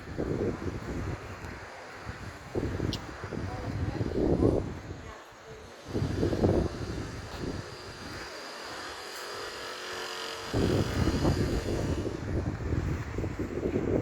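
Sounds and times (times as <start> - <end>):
distant engine hum: 0.0 - 14.0
wind buffeting microphone: 0.0 - 14.0.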